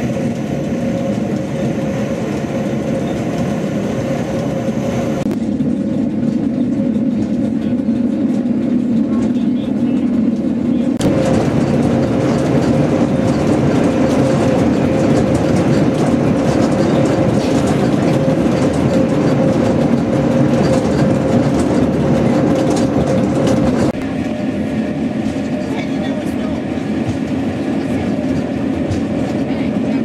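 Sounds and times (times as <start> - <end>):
railcar wheels rumbling: 0.0 - 30.0.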